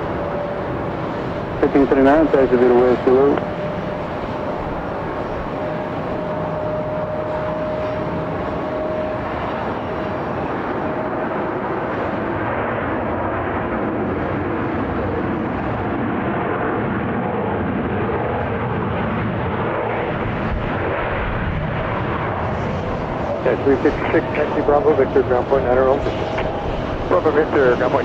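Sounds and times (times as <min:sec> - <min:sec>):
jet engines rushing: 0:00.0 - 0:16.0, 0:19.9 - 0:28.0
thin jet engine whine: 0:00.0 - 0:28.0.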